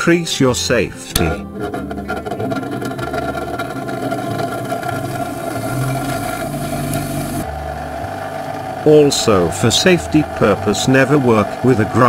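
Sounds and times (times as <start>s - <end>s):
bench grinder motor hum: 1.5s - 12.0s.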